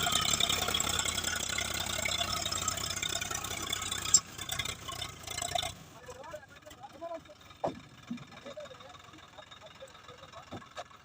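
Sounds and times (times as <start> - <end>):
diesel engine running with rattle: 0.0 - 11.0.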